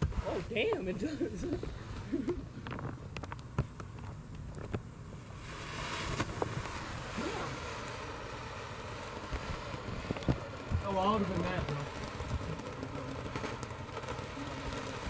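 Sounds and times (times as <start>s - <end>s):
firework fountain hissing: 0.0s - 15.0s.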